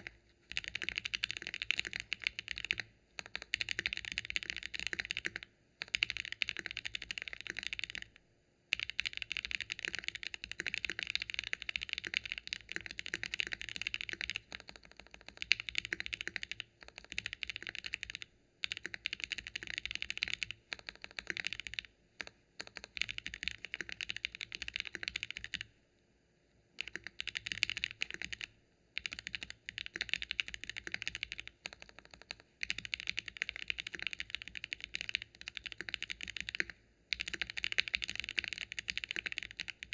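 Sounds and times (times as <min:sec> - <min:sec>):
mechanical keyboard typing: 0:00.0 - 0:25.7, 0:26.8 - 0:39.9.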